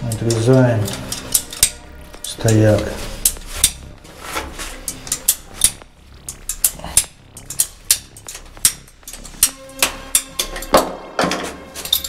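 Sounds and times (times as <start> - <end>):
pipe shears clicking: 0.0 - 12.0.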